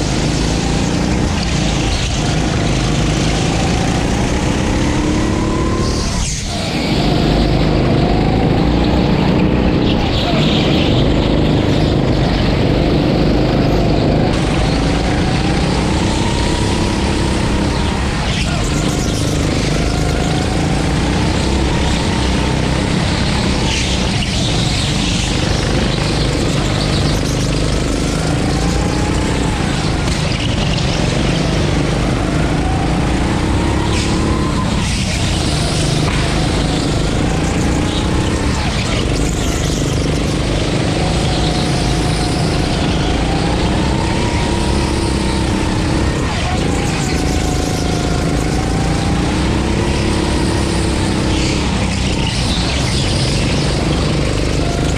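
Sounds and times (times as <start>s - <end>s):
go-kart engine racing: 0.0s - 54.9s.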